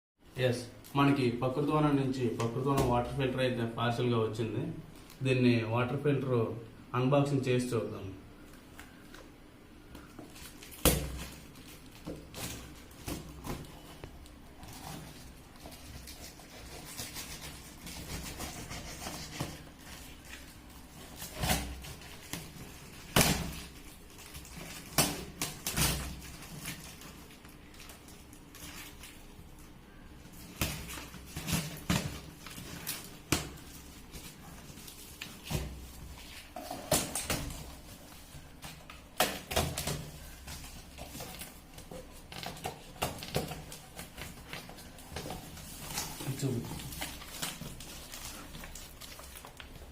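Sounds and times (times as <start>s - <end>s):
packaging rustling: 8.4s - 49.9s.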